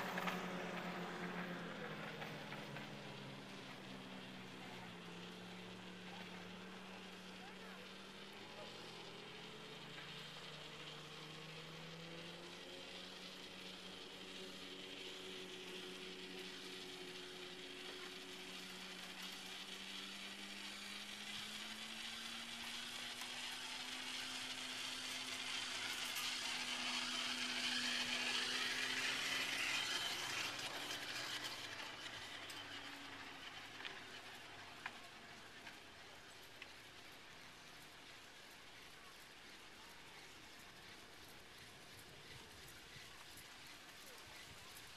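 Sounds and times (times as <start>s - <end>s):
chairlift rope whirring over wheels: 0.0s - 44.9s.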